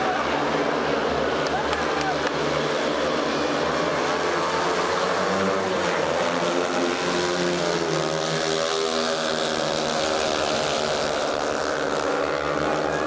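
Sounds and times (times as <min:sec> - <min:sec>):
motorcycle engines racing: 0:00.0 - 0:13.0.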